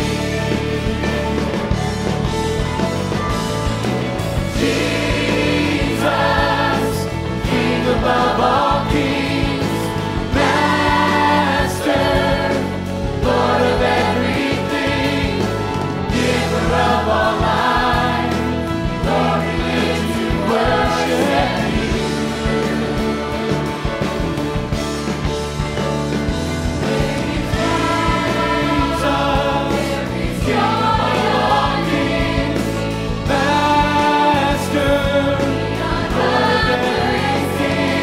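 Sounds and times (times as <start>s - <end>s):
choir singing gospel: 0.0s - 38.0s
live band playing: 0.0s - 38.0s.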